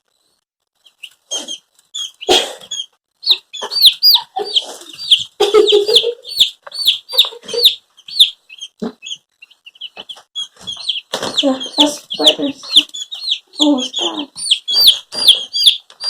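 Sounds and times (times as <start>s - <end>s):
chicks peeping rapidly: 0.8s - 16.0s.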